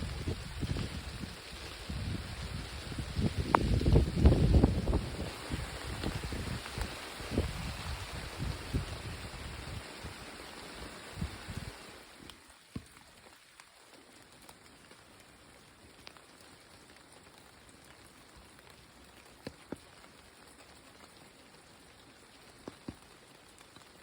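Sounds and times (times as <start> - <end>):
light rain pattering on leaves: 0.0 - 24.0.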